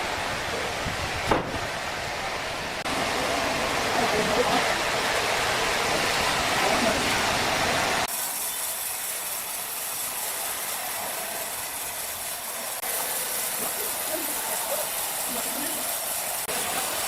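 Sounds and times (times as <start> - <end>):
sawmill machinery hissing: 0.0 - 17.0.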